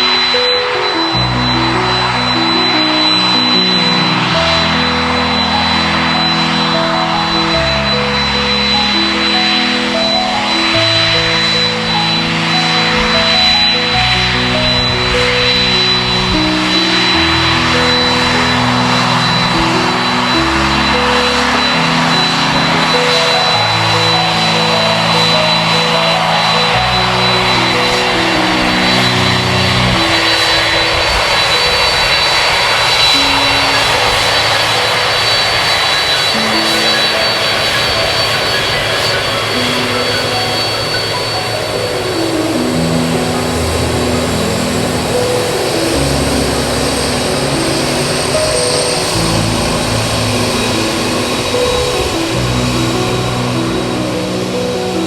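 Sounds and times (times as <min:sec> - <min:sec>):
jet engines rushing: 0:00.0 - 0:55.0
thin high whine: 0:00.0 - 0:55.0.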